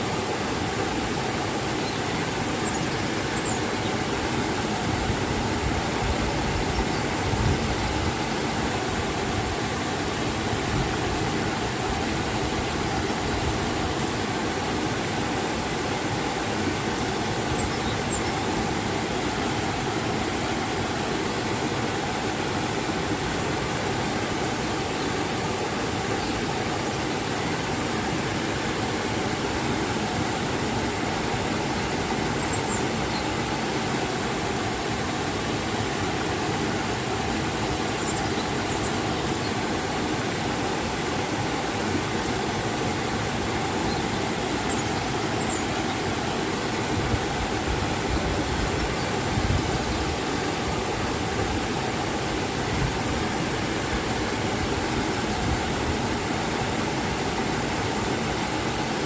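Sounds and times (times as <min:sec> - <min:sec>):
river and waterfall rushing: 0:00.0 - 0:59.0.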